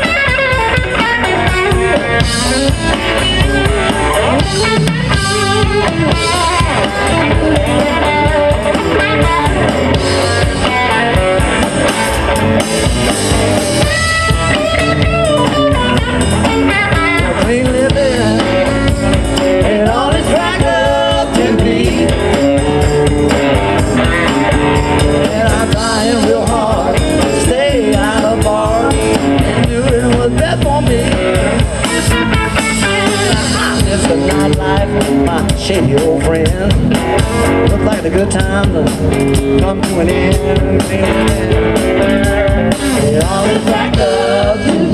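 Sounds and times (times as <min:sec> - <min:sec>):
bass guitar: 0:00.0 - 0:44.9
drum kit: 0:00.0 - 0:44.9
electric guitars: 0:00.0 - 0:44.9.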